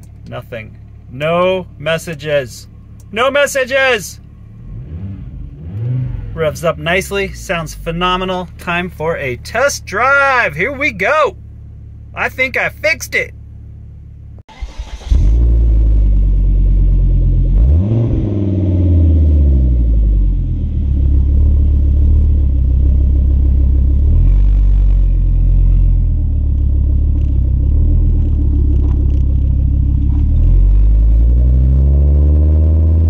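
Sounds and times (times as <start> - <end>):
car engine rumbling: 0.0 - 33.0.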